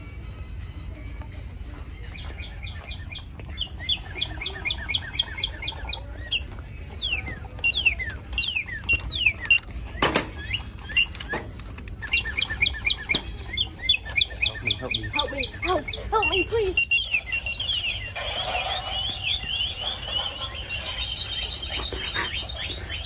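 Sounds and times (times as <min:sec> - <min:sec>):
electronic toy bird chirping: 0:02.3 - 0:23.0.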